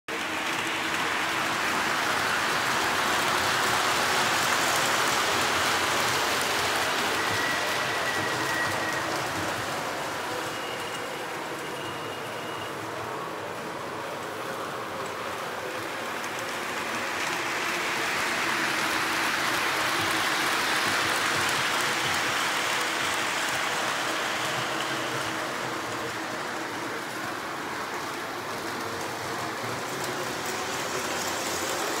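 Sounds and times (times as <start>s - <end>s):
model trains rumbling on rails: 0.1s - 32.0s.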